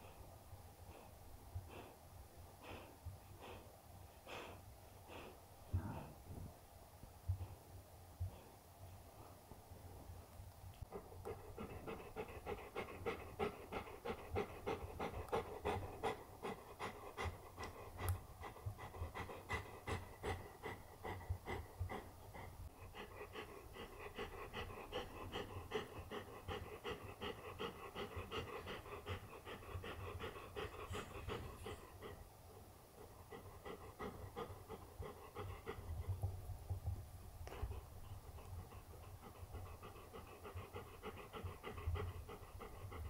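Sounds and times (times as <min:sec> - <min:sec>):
dog panting: 0:00.8 - 0:06.3, 0:10.7 - 0:43.0.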